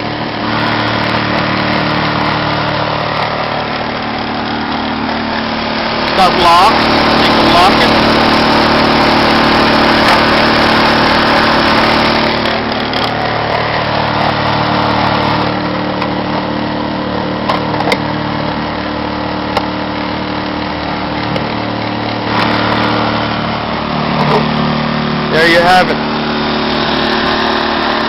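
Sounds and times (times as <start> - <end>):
generator running: 0.0 - 28.0.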